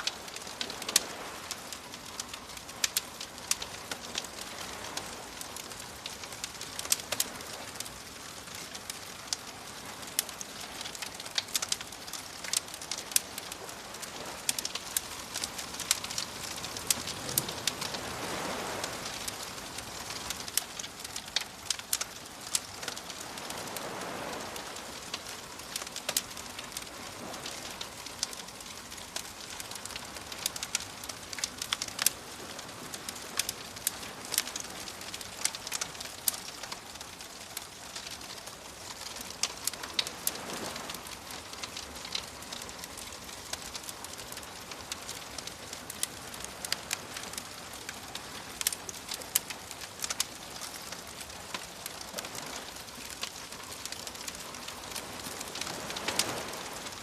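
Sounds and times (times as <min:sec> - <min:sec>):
bonfire crackling and popping: 0:00.0 - 0:57.0
waves breaking: 0:00.0 - 0:57.0.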